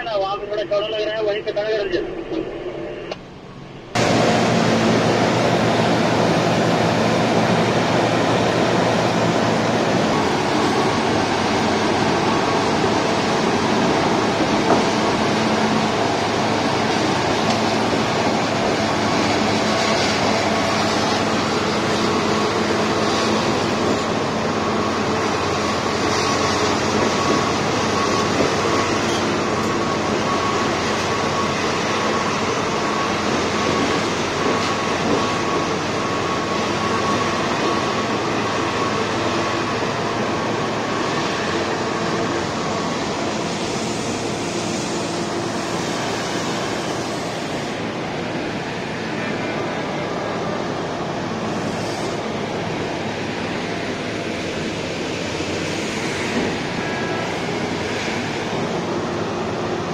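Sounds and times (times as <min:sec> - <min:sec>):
mining shovel hydraulics running: 0:00.0 - 0:59.9
thin steady whine: 0:00.0 - 0:59.9.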